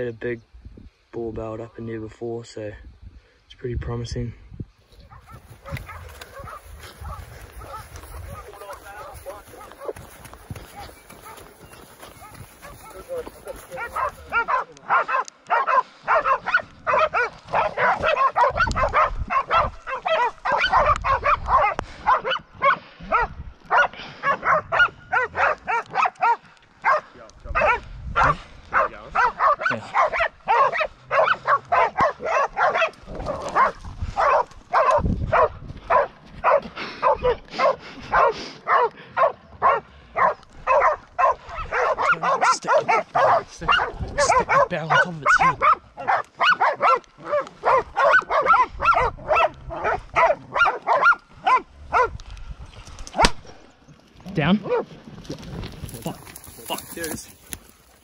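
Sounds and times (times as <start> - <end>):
dogs barking rapidly: 5.0 - 52.2, 53.1 - 53.5, 54.6 - 54.9.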